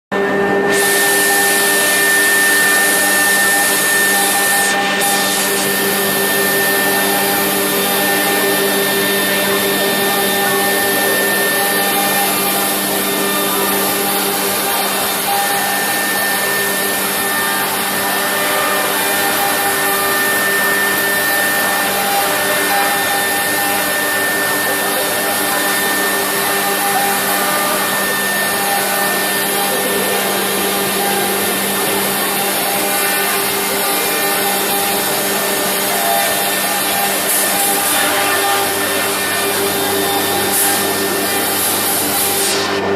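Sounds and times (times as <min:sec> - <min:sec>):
cnc router whining: 0:00.1 - 0:42.9.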